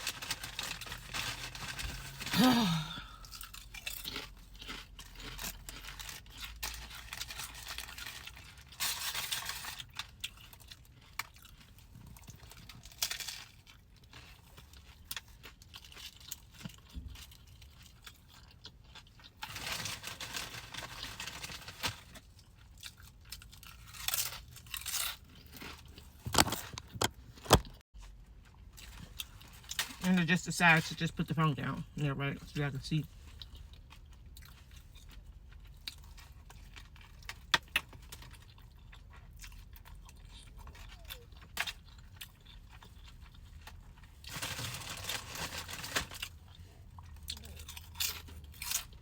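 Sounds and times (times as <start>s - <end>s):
person chewing and crunching: 0.0s - 49.0s.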